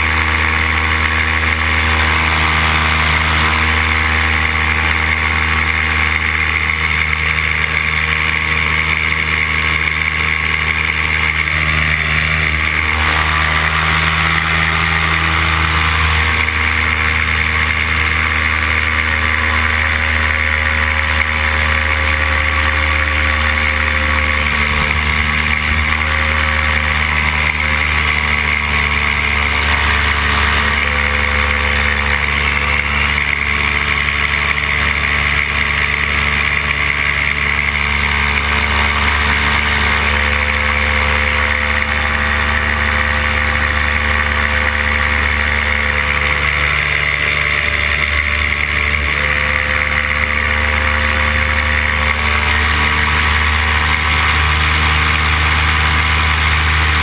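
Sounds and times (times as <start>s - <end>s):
paramotor engine droning: 0.0s - 57.0s.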